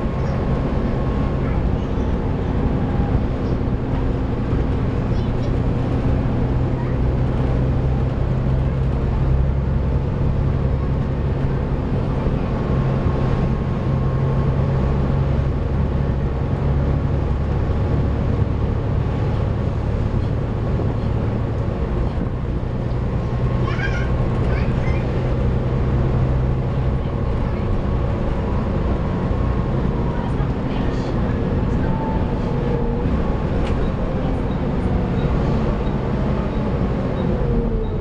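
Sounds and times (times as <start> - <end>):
bus engine humming: 0.0 - 38.0
high whine of bus driveline: 0.0 - 38.0.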